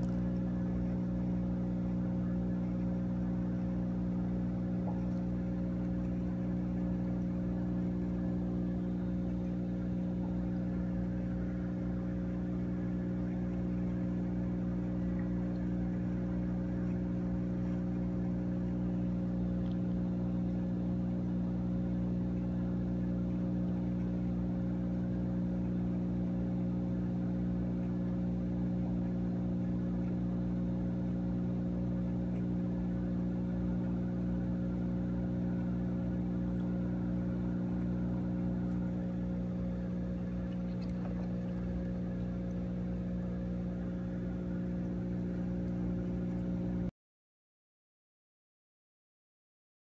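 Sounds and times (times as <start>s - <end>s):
aquarium pump humming: 0.0s - 46.9s.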